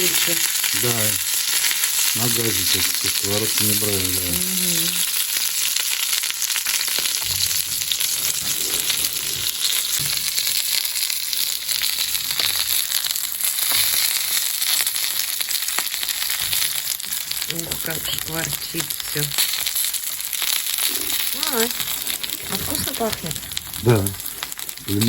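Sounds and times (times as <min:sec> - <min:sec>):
dumplings sizzling in a pan: 0:00.0 - 0:25.0.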